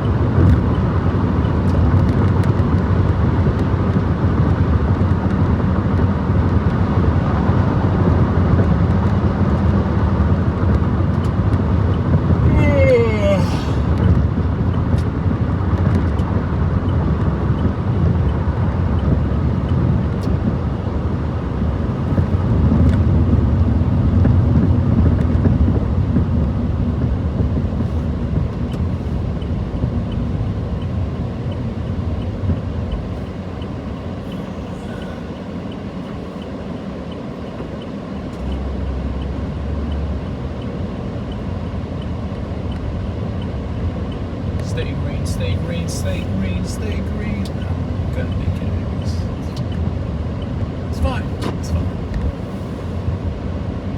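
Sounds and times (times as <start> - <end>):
car interior road and engine noise: 0.0 - 53.9.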